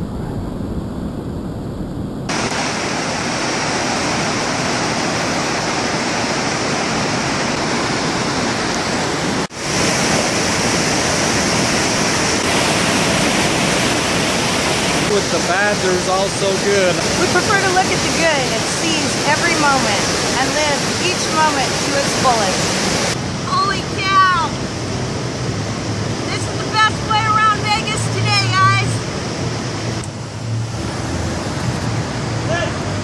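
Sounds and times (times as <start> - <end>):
floodwater rushing: 2.3 - 33.0.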